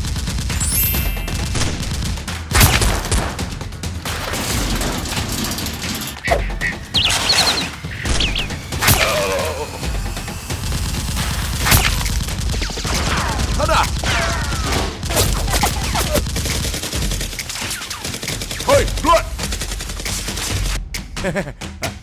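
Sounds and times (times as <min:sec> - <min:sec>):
rapid gunfire: 0:00.0 - 0:20.8
background music: 0:00.0 - 0:22.0.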